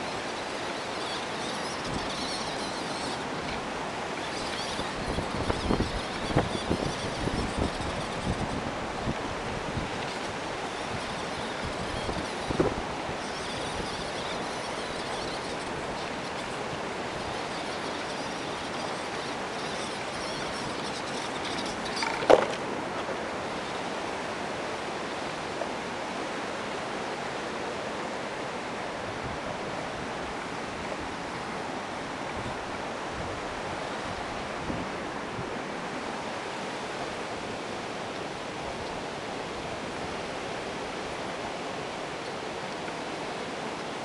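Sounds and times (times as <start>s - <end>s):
wind noise on microphone: 0.0s - 24.1s, 28.6s - 42.2s.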